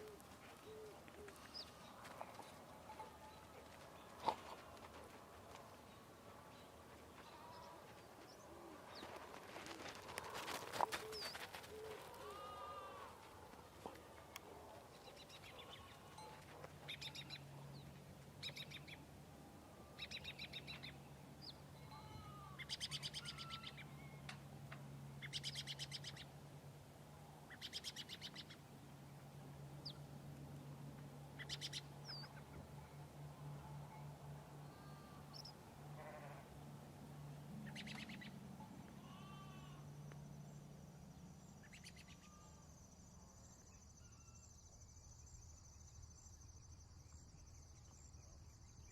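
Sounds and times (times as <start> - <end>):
low steady hum: 0.0 - 48.9.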